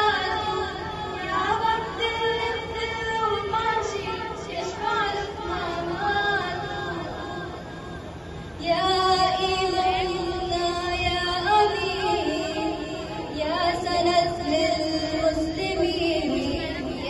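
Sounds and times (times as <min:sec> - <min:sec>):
girl singing into a microphone: 0:00.0 - 0:07.6, 0:08.6 - 0:17.0.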